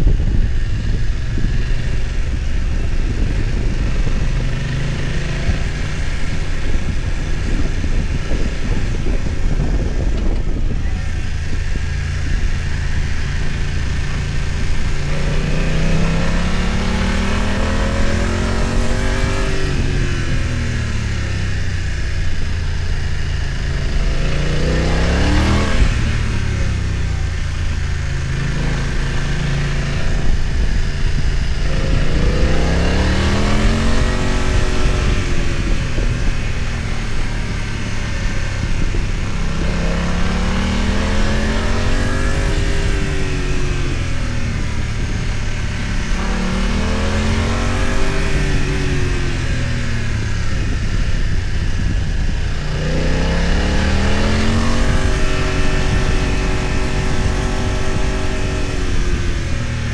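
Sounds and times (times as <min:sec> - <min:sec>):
motorcycle engine revving: 0:00.0 - 0:59.9
wind hiss: 0:00.0 - 0:59.9.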